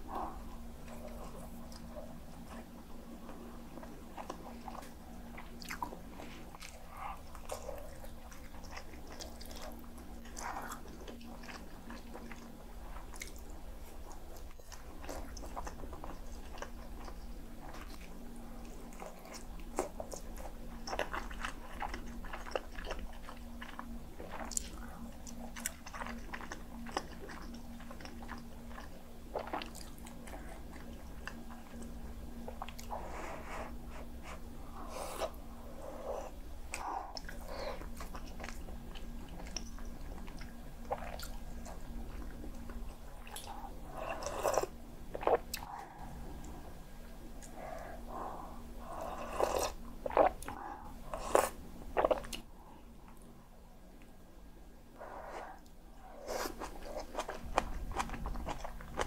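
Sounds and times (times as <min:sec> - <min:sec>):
person chewing food: 0:00.0 - 0:53.3, 0:55.0 - 0:59.0
faint steady hum: 0:00.0 - 0:59.0.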